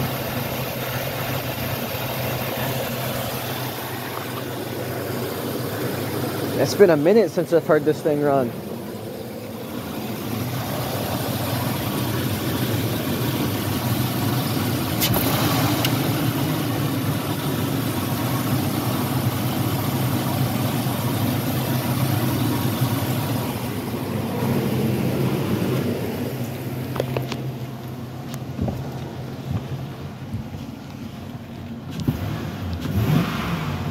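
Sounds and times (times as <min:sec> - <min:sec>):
pickup truck engine idling: 0:00.0 - 0:32.0.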